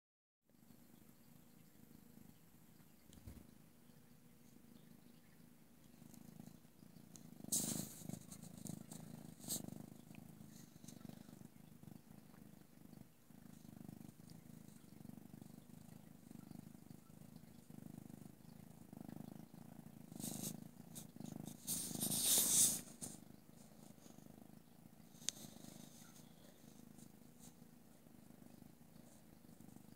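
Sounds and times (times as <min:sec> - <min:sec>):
cat purring: 0:00.5 - 0:29.9.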